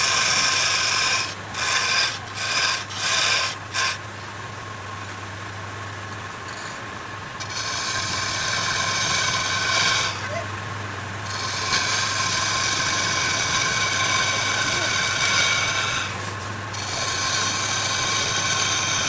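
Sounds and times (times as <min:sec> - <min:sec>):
wood being scraped: 0:00.0 - 0:04.1, 0:06.5 - 0:10.5, 0:11.2 - 0:19.0
steady motor hum: 0:00.0 - 0:19.0.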